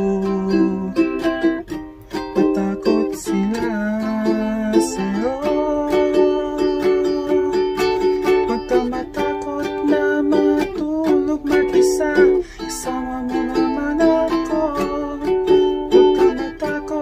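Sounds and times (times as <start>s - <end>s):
man singing a ballad: 0.0s - 1.4s, 2.3s - 17.0s
ukulele strumming: 0.0s - 17.0s.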